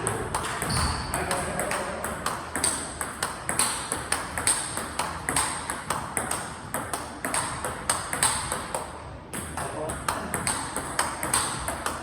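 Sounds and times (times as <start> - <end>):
ball bouncing on table: 0.0 - 12.0
ball hitting racket: 0.0 - 12.0.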